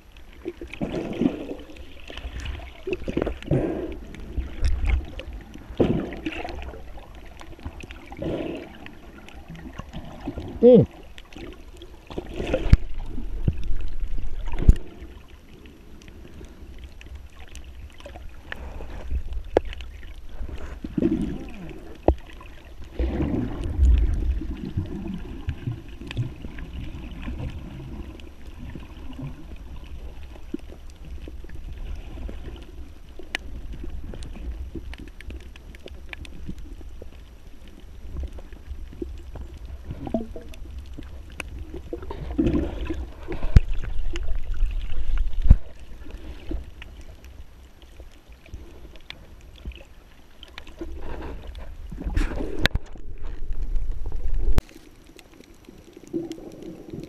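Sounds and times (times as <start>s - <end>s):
water sloshing and bubbling: 0.0s - 57.0s
clicks and crackles: 0.1s - 57.0s.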